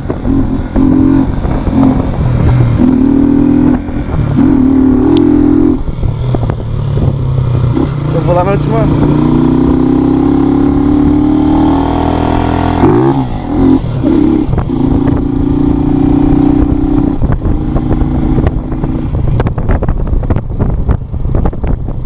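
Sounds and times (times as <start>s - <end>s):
small motorcycle engine revving: 0.0s - 19.5s.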